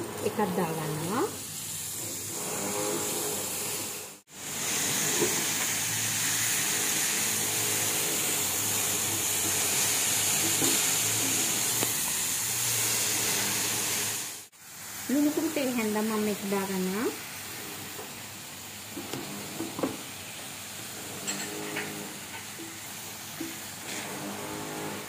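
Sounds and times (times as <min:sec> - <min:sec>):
fruit sizzling in a frying pan: 0:00.0 - 0:24.9.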